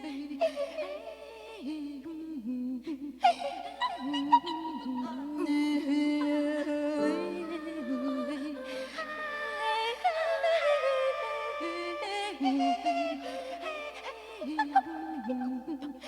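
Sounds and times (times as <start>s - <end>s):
voices humming and singing: 0.0s - 16.0s.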